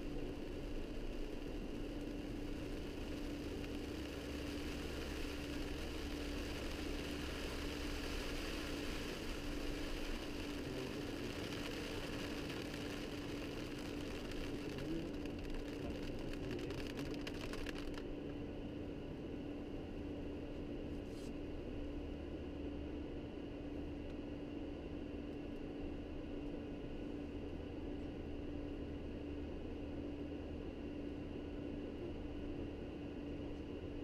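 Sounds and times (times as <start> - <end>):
even hum: 0.0 - 34.0.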